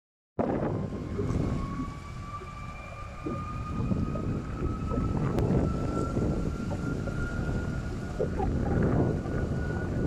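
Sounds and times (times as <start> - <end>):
distant jet engines spooling up: 0.4 - 10.0.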